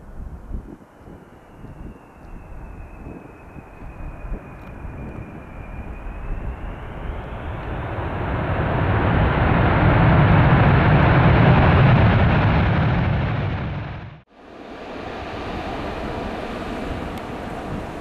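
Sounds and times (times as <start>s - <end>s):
jet engines on approach: 0.1s - 18.0s.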